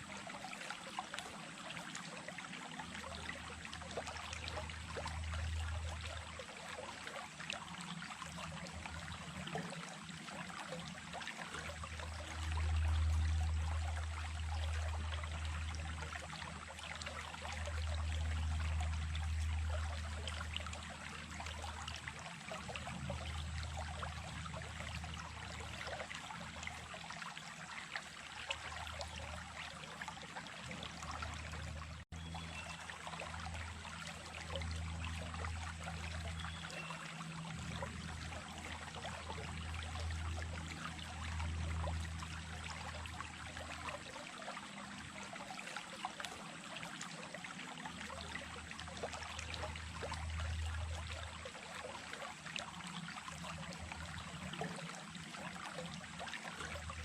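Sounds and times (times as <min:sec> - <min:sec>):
creek water running: 0:00.0 - 0:57.0.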